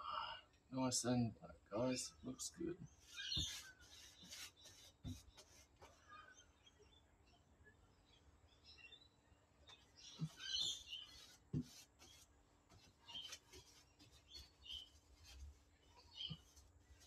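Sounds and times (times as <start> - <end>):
birds chirping: 1.8 - 17.0.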